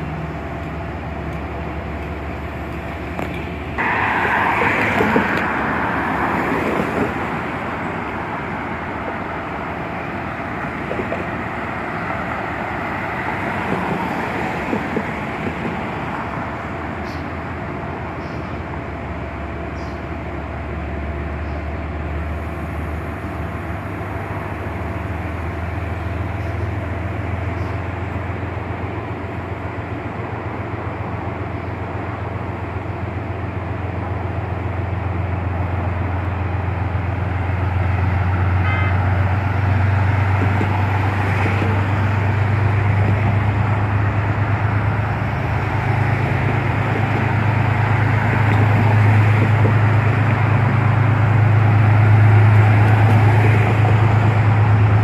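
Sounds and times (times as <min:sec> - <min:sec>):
road traffic passing: 0:00.0 - 0:55.0
train rumbling over bridge: 0:00.0 - 0:55.0.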